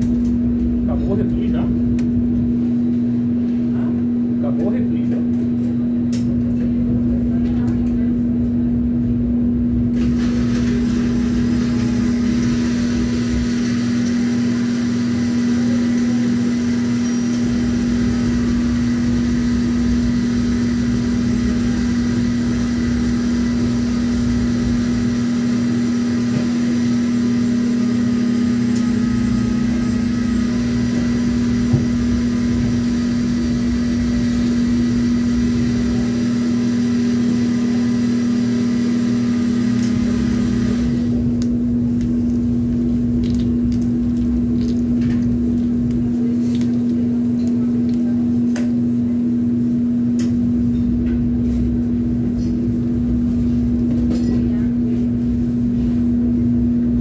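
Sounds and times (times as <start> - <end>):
kitchen equipment humming: 0.0 - 57.0.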